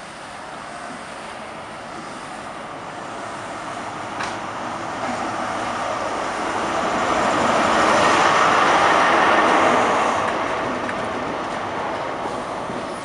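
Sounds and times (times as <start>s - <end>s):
train diesel engine working: 0.0s - 13.0s.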